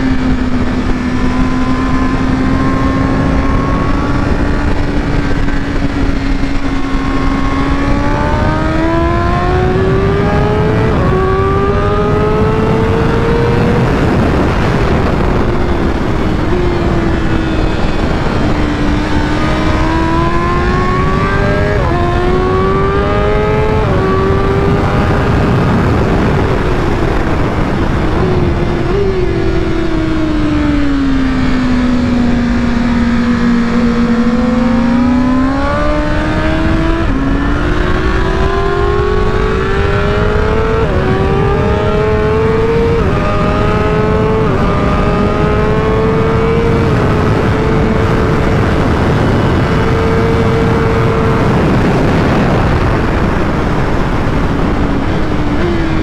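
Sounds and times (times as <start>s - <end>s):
heavy wind rush: 0.0s - 56.0s
motorcycle engine revving through upshifts: 0.0s - 56.0s.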